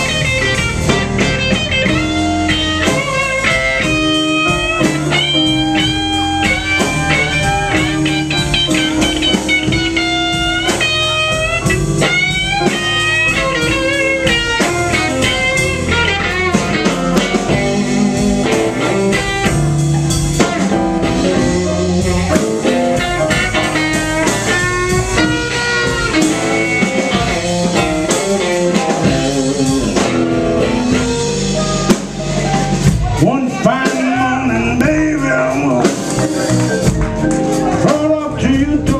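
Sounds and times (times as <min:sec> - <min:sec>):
blues band playing: 0:00.0 - 0:38.9
electric guitar lead: 0:00.0 - 0:38.9.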